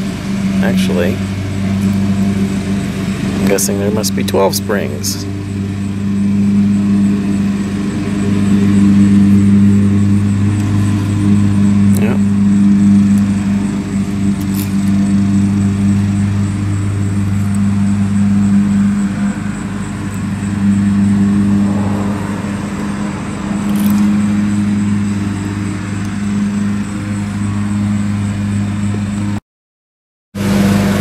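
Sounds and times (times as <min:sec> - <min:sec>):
motor humming: 0:00.0 - 0:29.4, 0:30.4 - 0:31.0.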